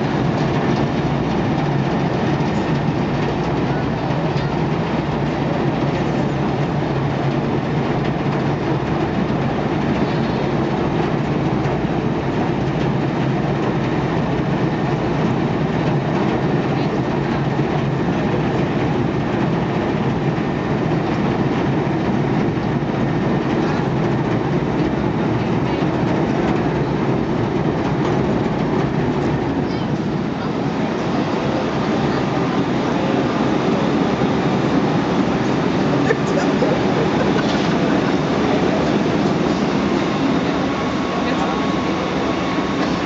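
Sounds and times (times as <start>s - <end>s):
boat diesel engine rumbling: 0.0s - 43.0s.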